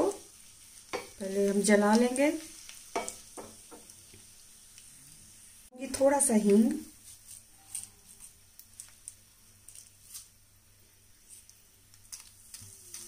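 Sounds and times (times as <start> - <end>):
spices crackling in hot oil: 0.0 - 13.0.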